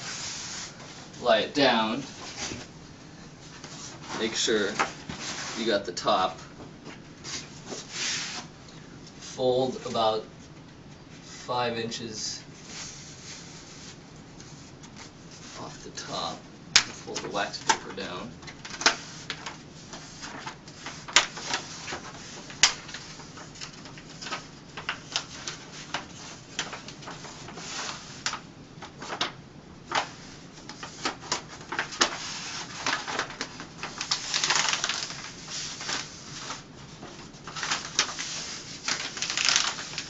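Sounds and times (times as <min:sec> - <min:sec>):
paper backing crackling: 0:03.5 - 0:08.5, 0:12.4 - 0:40.0
paper rustling: 0:03.5 - 0:08.5, 0:12.6 - 0:40.0.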